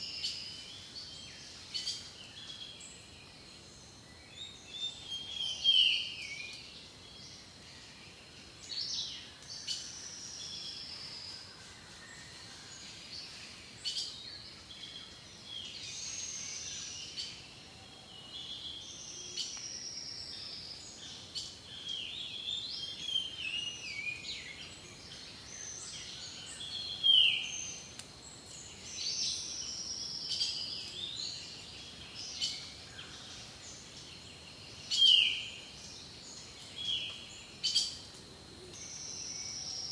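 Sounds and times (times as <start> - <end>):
faint river hiss: 0.0 - 39.9.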